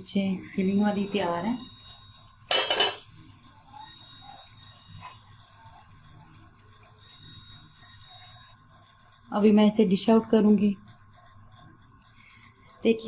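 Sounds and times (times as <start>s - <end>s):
pan simmering with faint hiss: 0.0s - 13.0s.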